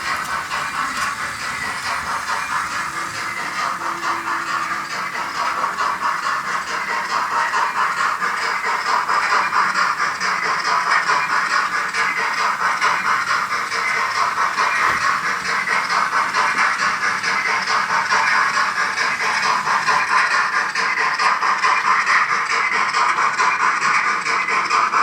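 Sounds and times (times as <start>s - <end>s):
steam locomotive exhaust chuffs: 0.0s - 25.0s.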